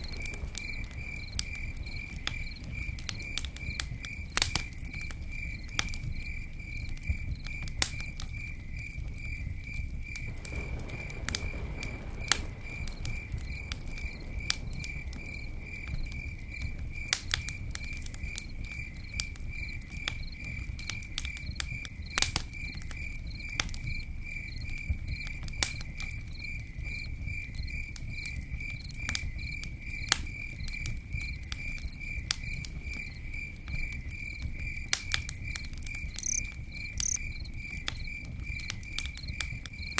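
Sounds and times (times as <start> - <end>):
campfire crackling and popping: 0.0 - 39.9
cricket chirping: 0.0 - 39.9.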